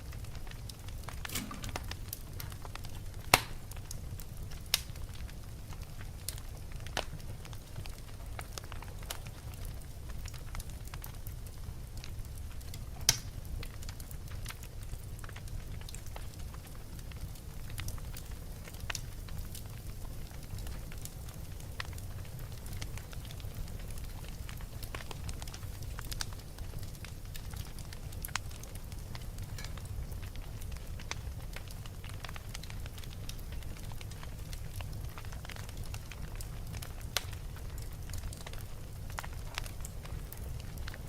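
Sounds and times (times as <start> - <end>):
wood fire crackling and popping: 0.0 - 41.0.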